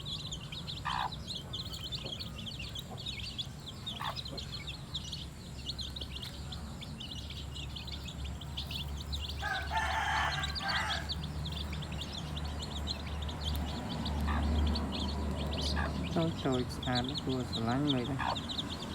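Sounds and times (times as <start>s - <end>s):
chicks peeping: 0.0s - 18.9s.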